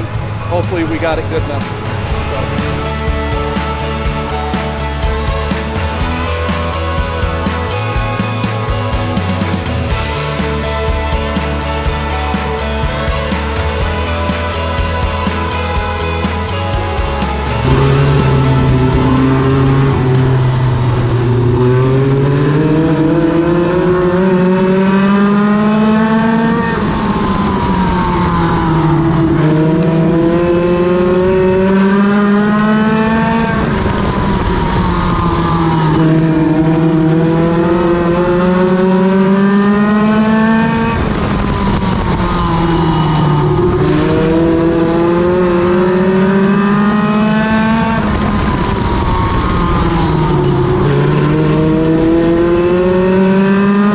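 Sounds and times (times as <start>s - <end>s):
race car engine revving: 0.0s - 12.7s, 13.4s - 53.9s.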